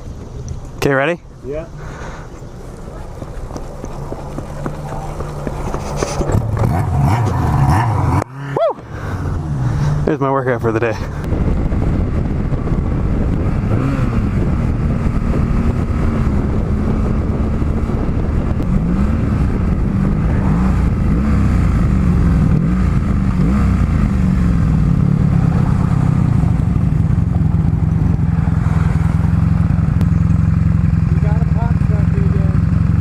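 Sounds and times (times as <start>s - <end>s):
motorcycle engine revving: 1.8s - 33.0s.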